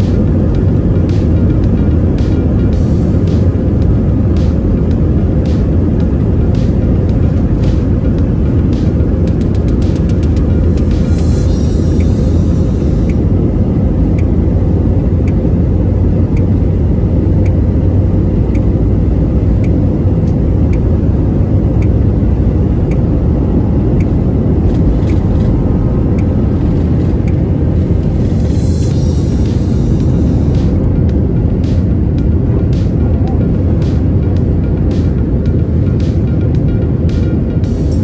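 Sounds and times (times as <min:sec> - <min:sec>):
jet cabin rumble during takeoff: 0:00.0 - 0:38.0.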